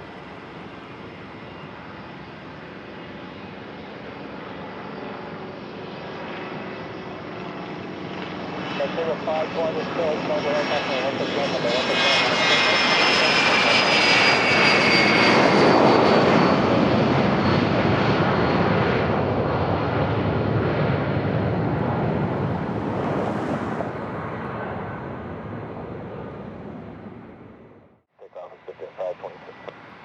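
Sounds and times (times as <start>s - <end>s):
jet engines passing by: 0.0s - 30.0s.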